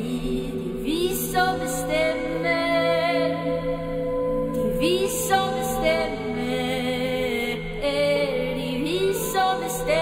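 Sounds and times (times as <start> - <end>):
women singing a cappella: 0.0 - 10.0.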